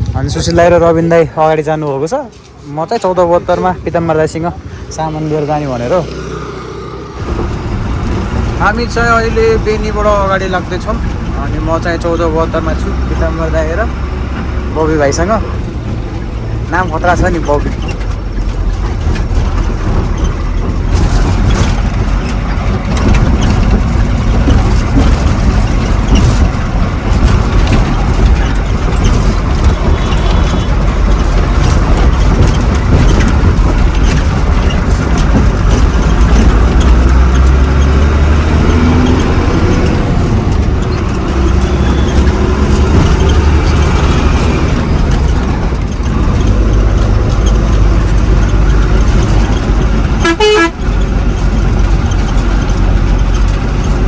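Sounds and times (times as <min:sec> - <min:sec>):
road noise: 0:00.0 - 0:54.0
truck engine rumbling: 0:00.0 - 0:54.0.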